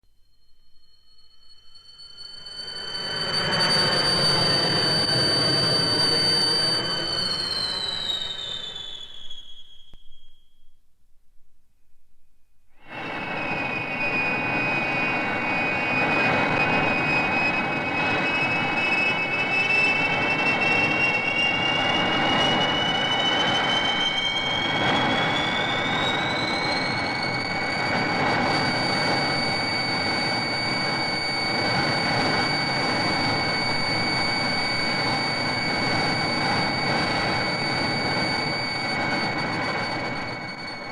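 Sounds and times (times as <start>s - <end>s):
high whine rising in pitch: 0.0s - 10.8s, 12.8s - 40.9s.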